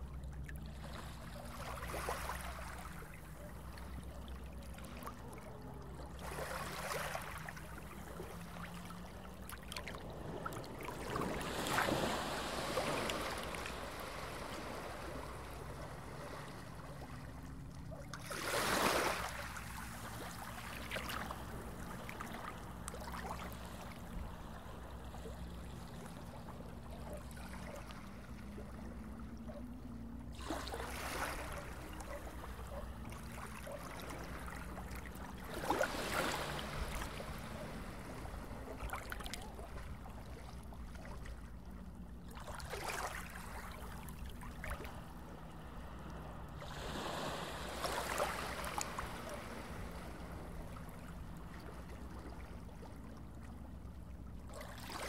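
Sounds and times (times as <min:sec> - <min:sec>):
swells of water noise: 0:00.0 - 0:55.0
underwater low hum: 0:00.0 - 0:55.0.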